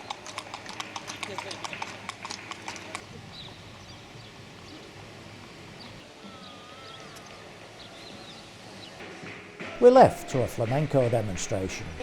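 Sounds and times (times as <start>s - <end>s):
outdoor square background noise: 0.0s - 12.0s.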